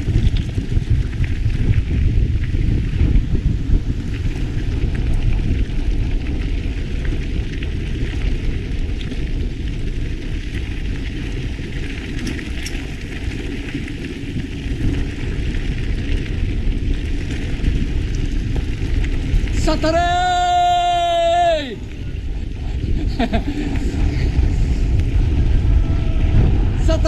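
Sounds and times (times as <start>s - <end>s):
tyres crackling over ground: 0.0s - 27.0s
wind rumbling on microphone: 0.0s - 27.0s.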